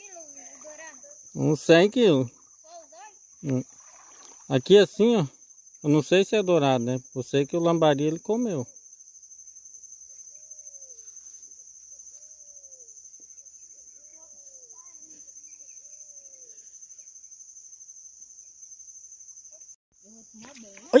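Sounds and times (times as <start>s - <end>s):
high-pitched insect trill: 0.0s - 21.0s.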